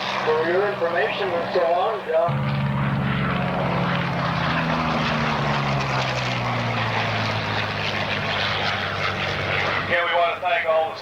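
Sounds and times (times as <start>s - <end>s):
propeller plane engine passing: 0.0s - 11.0s.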